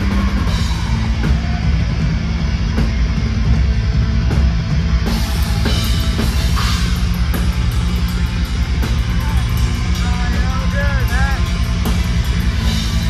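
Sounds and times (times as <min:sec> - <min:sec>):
distorted guitars and bass: 0:00.0 - 0:13.0
fast driving drums: 0:00.0 - 0:13.0.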